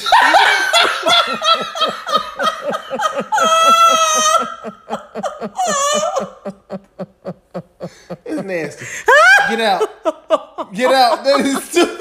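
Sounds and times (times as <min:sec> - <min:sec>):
hearty laughter: 0:00.0 - 0:12.0.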